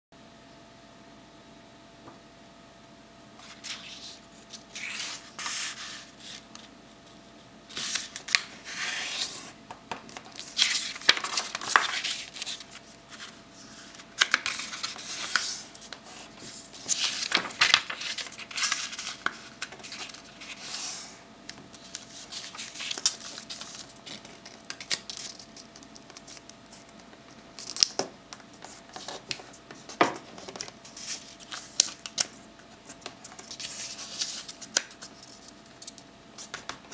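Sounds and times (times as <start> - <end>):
paper rustling and folding: 3.4 - 36.9.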